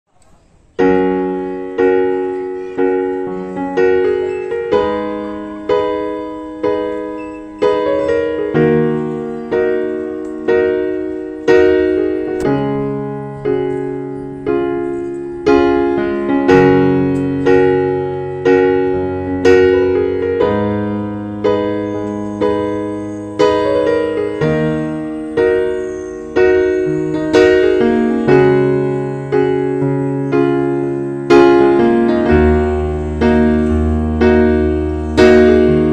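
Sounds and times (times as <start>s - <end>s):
slow piano chords: 0.1s - 35.9s.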